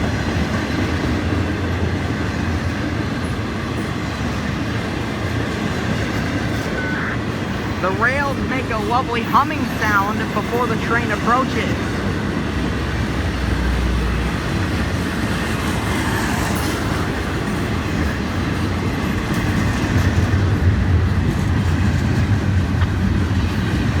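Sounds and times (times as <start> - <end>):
freight train wheels rumbling on rail: 0.0 - 24.0.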